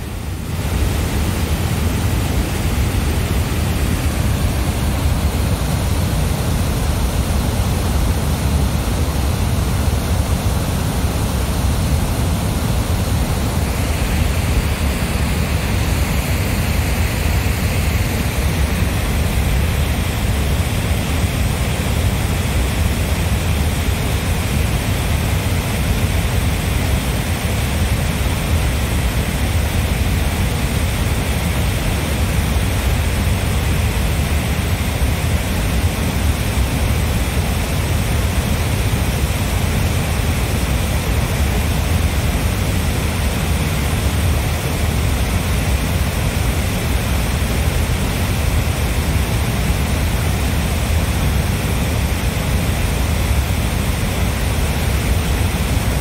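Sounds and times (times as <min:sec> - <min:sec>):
roar of rushing water: 0:00.0 - 0:56.0.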